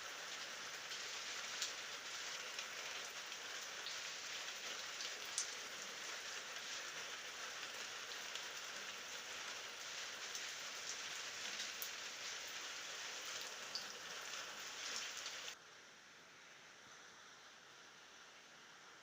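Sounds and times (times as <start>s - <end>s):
faint hiss: 0.0s - 19.0s
steady rain: 0.0s - 19.0s.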